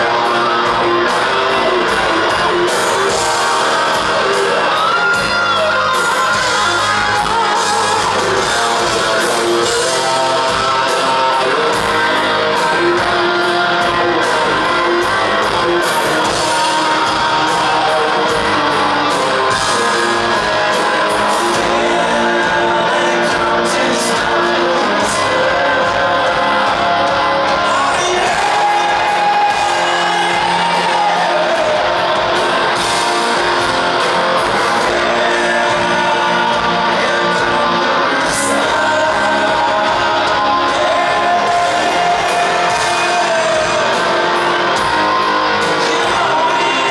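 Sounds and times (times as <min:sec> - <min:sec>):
drums: 0:00.0 - 0:46.9
electric guitars: 0:00.0 - 0:46.9
person singing: 0:00.0 - 0:46.9.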